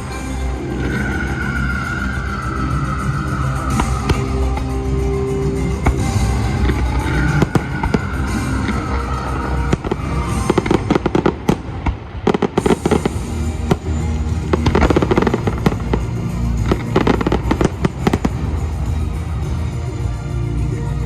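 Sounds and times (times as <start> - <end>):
fireworks bangs and crackles: 0.0 - 20.7
music playing: 0.0 - 21.0.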